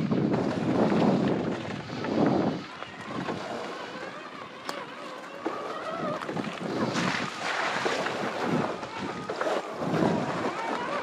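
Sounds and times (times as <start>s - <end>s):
electric motor whine: 0.0s - 11.0s
wind buffeting microphone: 0.0s - 11.0s.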